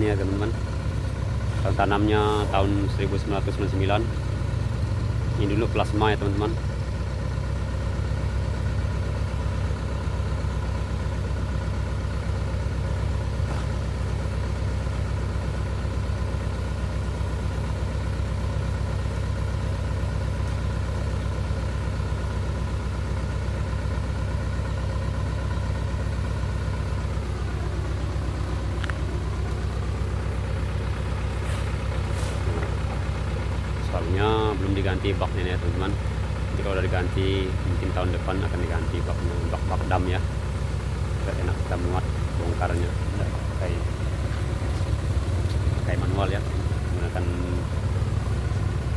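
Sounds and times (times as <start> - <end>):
truck engine idling: 0.0 - 48.9.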